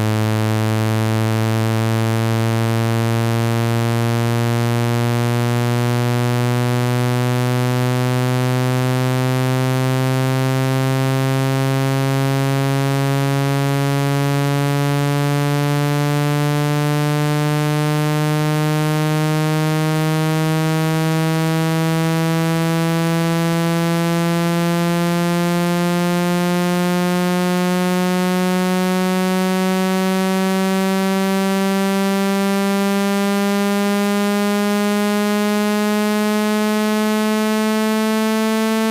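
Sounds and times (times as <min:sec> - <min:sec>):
low electronic buzz rising in pitch: 0:00.0 - 0:38.9.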